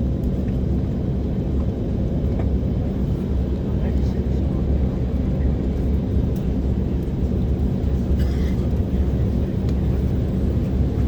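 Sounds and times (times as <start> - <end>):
low rumble in aircraft cabin: 0.0 - 11.0.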